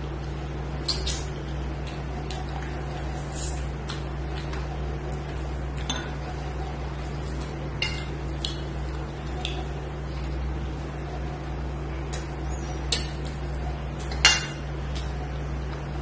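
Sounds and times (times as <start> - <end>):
steady low hum: 0.0 - 16.0
chewing: 0.8 - 14.2.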